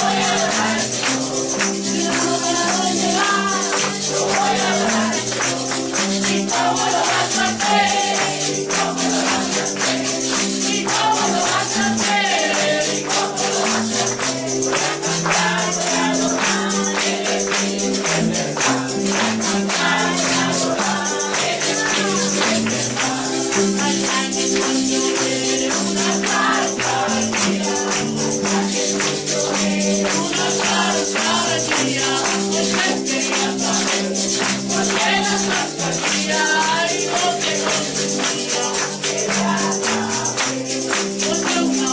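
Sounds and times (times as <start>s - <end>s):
group singing gospel song: 0.0s - 41.9s
tambourine shaken: 0.0s - 41.9s.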